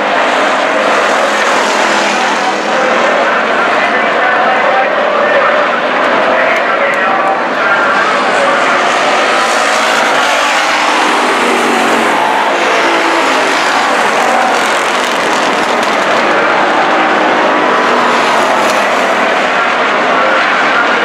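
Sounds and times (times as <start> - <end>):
race car engines roaring: 0.0 - 21.0.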